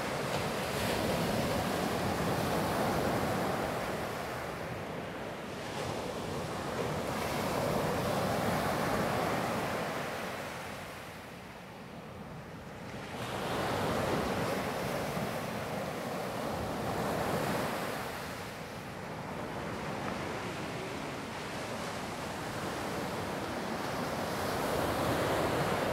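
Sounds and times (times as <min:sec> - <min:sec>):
ocean waves washing up a beach: 0:00.0 - 0:25.9.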